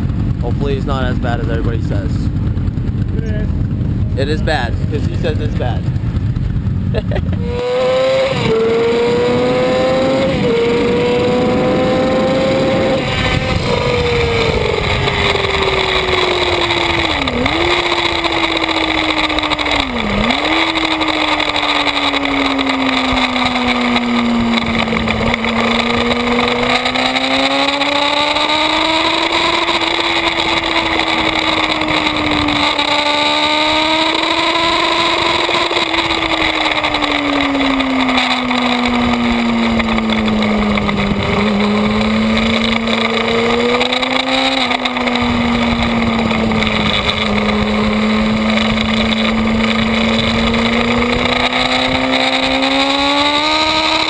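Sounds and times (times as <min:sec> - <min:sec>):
motorcycle engine at speed: 0:00.0 - 0:54.0
wind rush on microphone: 0:00.0 - 0:54.0.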